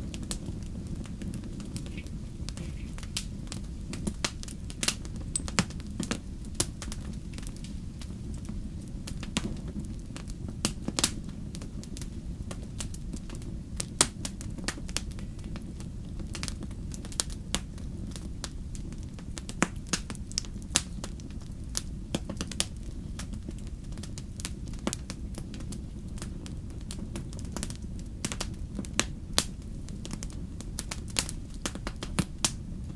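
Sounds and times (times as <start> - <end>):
campfire burning: 0.0 - 32.9
fire crackling and popping: 0.0 - 32.9.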